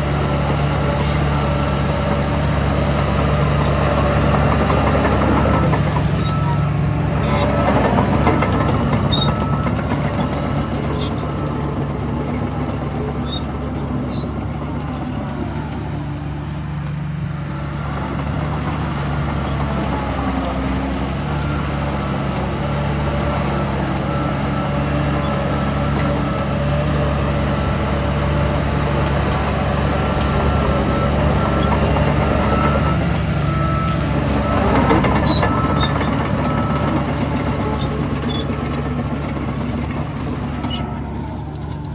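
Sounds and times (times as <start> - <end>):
engine revving: 0.0 - 41.9
heavy diesel machinery running: 0.0 - 41.9.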